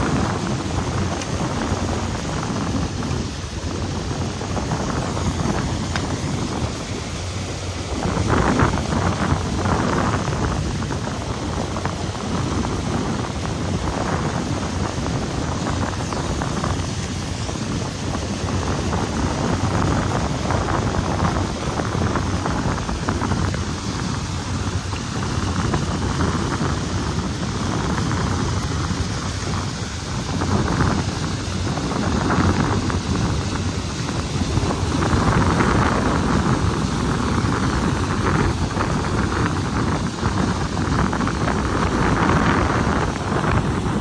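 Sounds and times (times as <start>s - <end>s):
boat engine: 0.0s - 44.0s
rushing water: 0.0s - 44.0s
wind noise on microphone: 0.0s - 44.0s.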